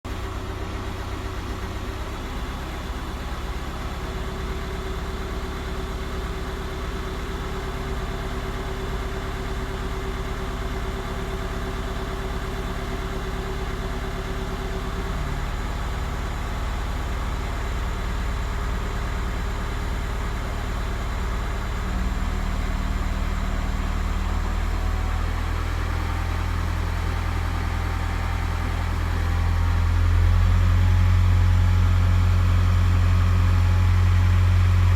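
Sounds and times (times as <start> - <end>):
diesel engine idling with knock: 0.1 - 34.9.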